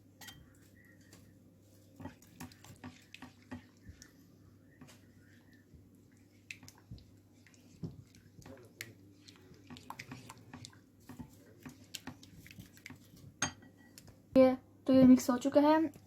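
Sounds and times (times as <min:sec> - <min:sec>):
spoon stirring in bowl: 0:00.1 - 0:14.2.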